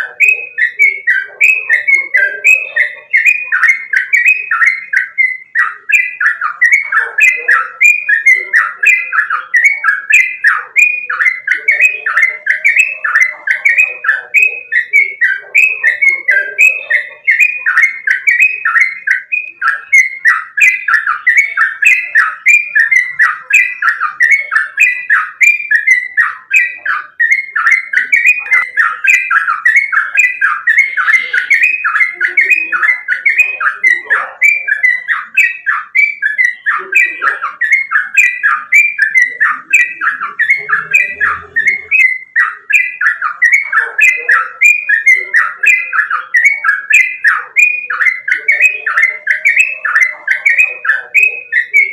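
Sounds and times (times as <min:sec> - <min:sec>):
bird singing whistled notes: 0:00.0 - 0:51.9.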